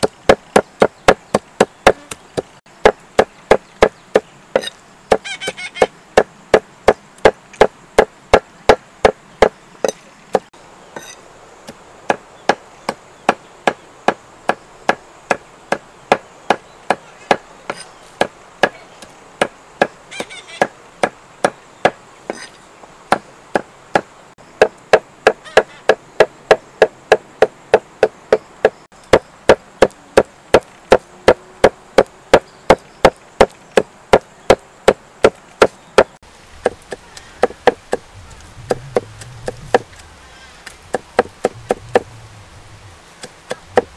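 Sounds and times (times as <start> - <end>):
cleaver chopping on wooden block: 0.0 - 11.1, 12.1 - 18.8, 23.1 - 40.0, 40.7 - 42.1, 43.2 - 43.9.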